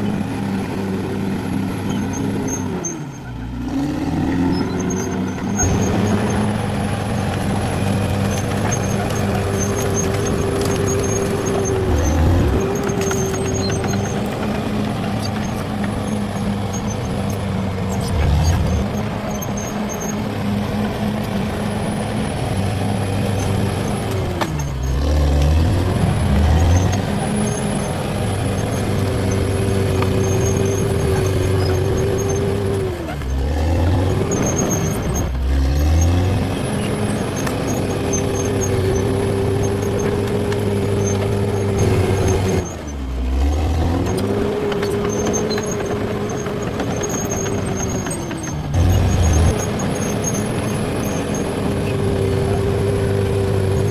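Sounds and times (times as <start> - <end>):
bulldozer diesel engine under load: 0.0 - 53.9.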